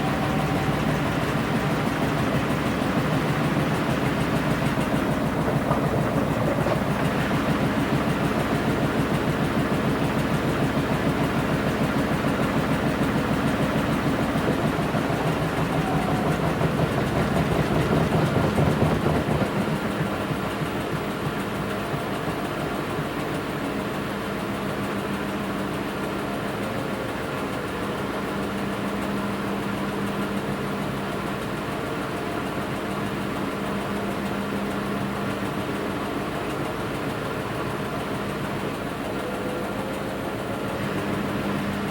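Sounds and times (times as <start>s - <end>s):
washing machine running: 0.0s - 41.9s.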